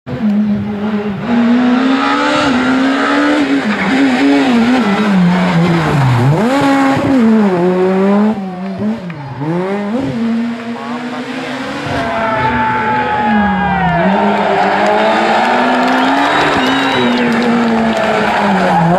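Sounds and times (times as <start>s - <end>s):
rally car engine revving: 0.1s - 18.9s.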